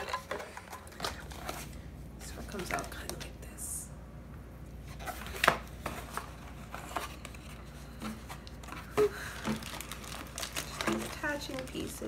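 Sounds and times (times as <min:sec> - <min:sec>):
cardboard and plastic rustling: 0:00.0 - 0:03.4, 0:04.8 - 0:12.0.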